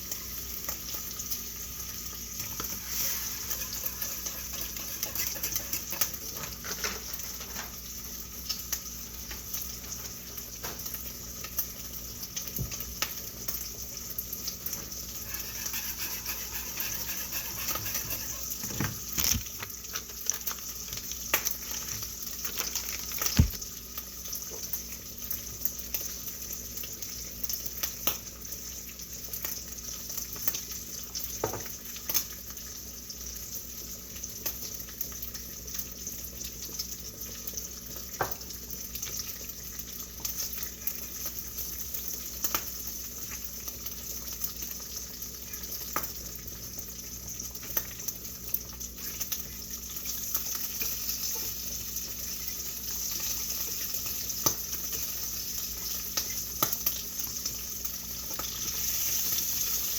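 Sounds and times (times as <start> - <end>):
steady sizzling hiss: 0.0 - 59.9.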